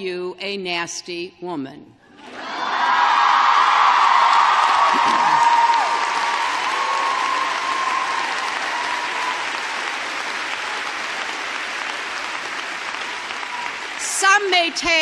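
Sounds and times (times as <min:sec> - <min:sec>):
large audience applauding: 0:02.2 - 0:15.0.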